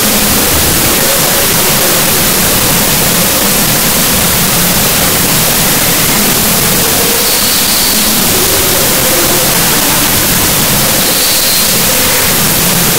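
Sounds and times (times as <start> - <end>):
static hiss: 0.0 - 12.9.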